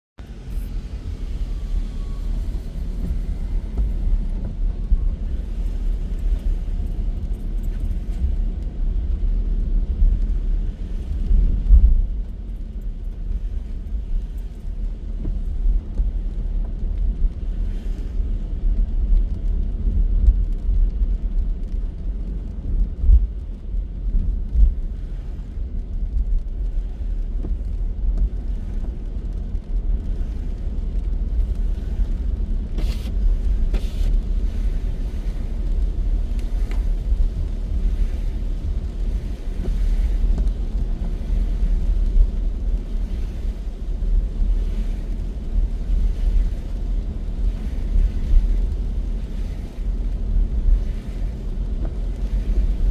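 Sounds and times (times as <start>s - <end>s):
car tyres and engine rumble: 0.1s - 52.9s.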